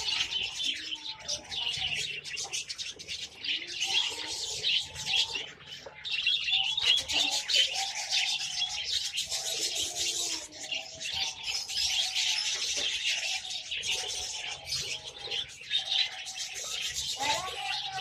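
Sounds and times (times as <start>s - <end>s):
pet birds chirping and chattering: 0.0s - 18.0s.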